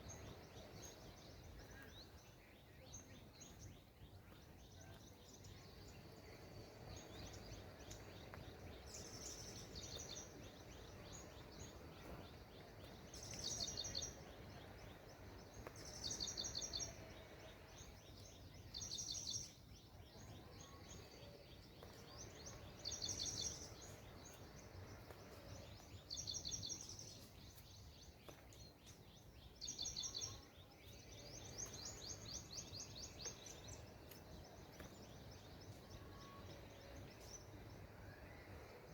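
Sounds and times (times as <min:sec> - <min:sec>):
faint low background noise: 0:00.0 - 0:38.9.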